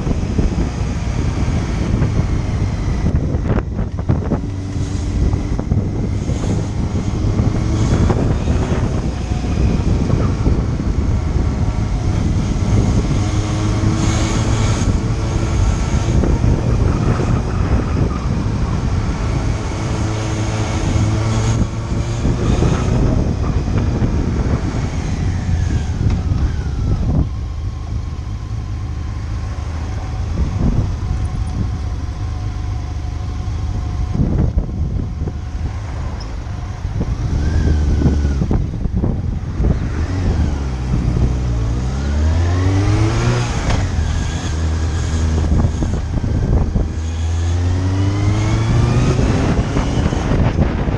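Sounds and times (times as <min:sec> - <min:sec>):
motorcycle engine running: 0:00.0 - 0:50.9
road and wind noise: 0:00.0 - 0:50.9.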